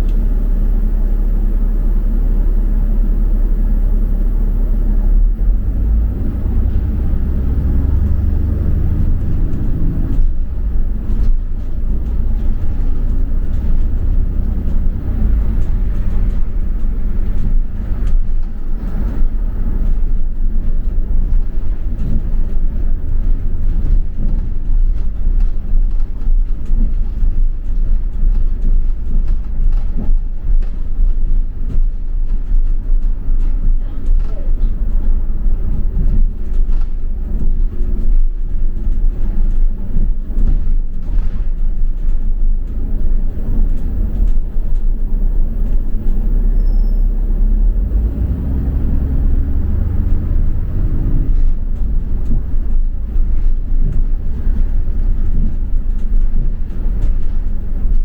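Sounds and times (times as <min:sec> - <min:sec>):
bus engine and road rumble: 0:00.0 - 0:58.0
bus rattling and knocking: 0:00.0 - 0:58.0
steady engine hum: 0:00.0 - 0:58.0.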